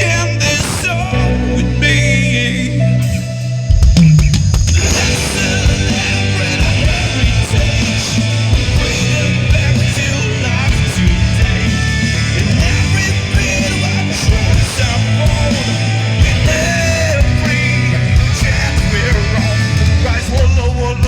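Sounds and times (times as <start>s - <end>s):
bass: 0.0s - 21.0s
drums: 0.0s - 21.0s
electric guitar: 0.0s - 21.0s
vocal or lead line: 0.0s - 21.0s.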